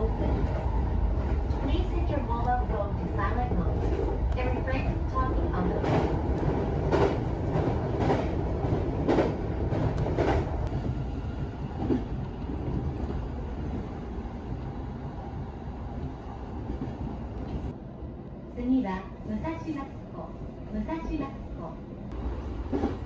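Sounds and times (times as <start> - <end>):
train rumble inside carriage: 0.0 - 23.0.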